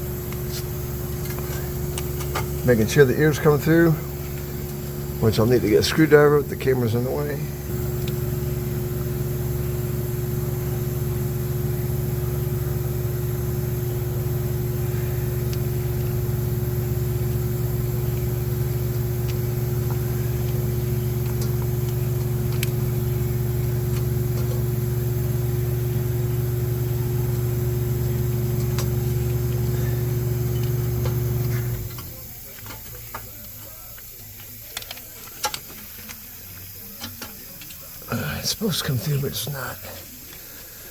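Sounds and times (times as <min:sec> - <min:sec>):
motor humming: 0:00.0 - 0:34.4.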